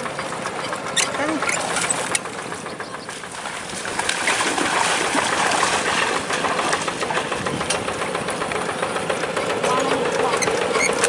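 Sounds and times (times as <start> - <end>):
diesel engine idling: 0.0 - 4.2, 4.9 - 11.0
water sloshing: 0.0 - 11.0.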